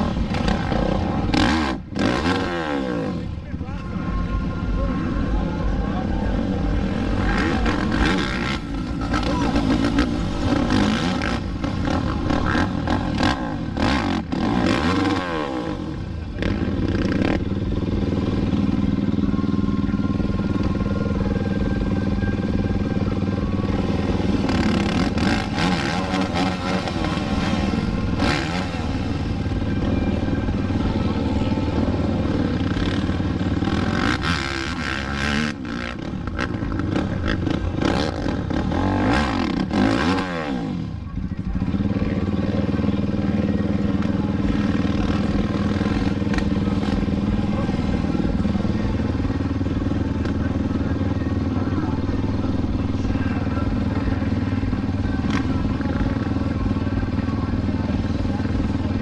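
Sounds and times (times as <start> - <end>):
quad engines revving: 0.0 - 59.0.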